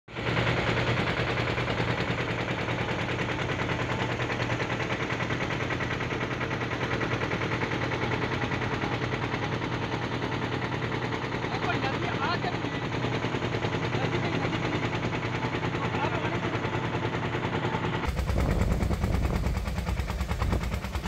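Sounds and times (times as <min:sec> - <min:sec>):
motorboat engine chugging: 0:00.1 - 0:21.0.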